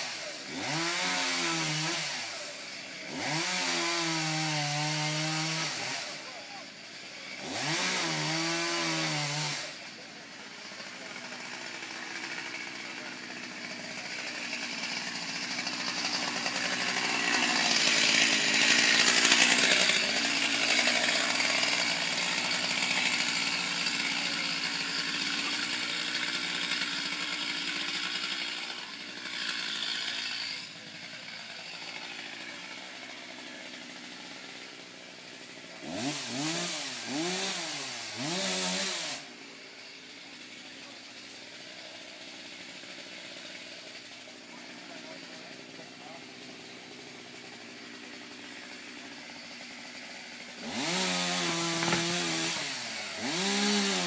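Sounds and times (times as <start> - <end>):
chainsaw cutting into tree: 0.0 - 54.0.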